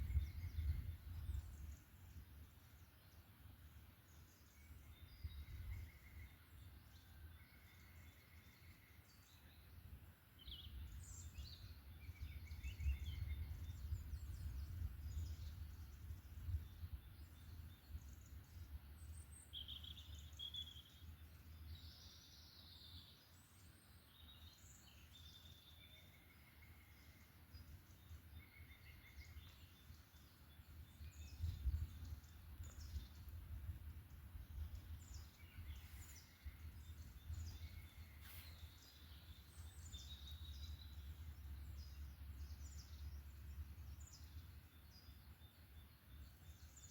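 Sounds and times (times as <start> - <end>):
songbirds chirping and singing: 0.0 - 46.9.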